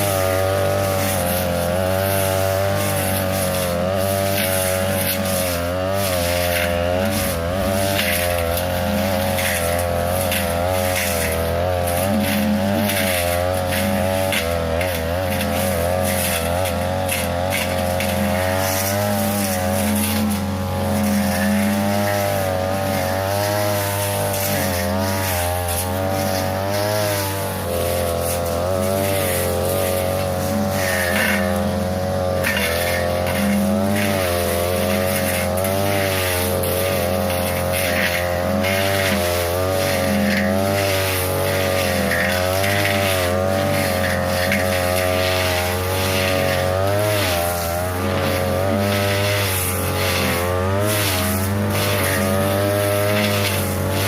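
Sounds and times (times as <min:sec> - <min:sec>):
brush cutter running: 0:00.0 - 0:54.0
crackles of stems cut: 0:00.0 - 0:54.0.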